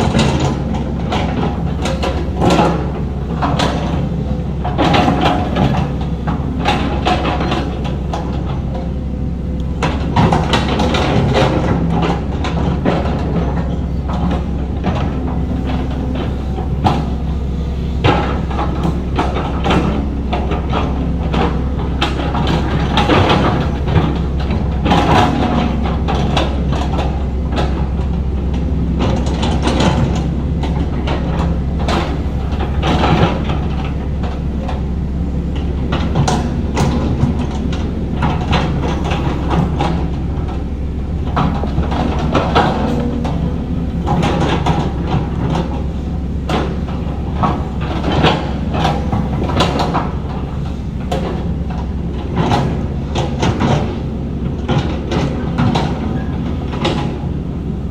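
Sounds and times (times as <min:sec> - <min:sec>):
metallic clanks and knocks: 0:00.0 - 0:57.3
diesel engine running: 0:00.0 - 0:57.9.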